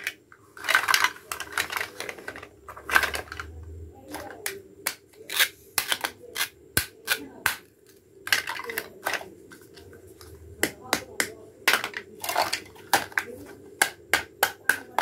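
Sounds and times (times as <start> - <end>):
plastic toy pieces clacking: 0.0 - 7.6, 8.2 - 9.3, 11.2 - 15.0.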